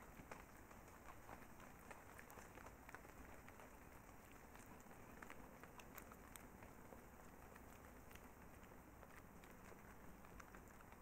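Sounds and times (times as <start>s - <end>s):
faint clicks and crackles: 0.0s - 11.0s.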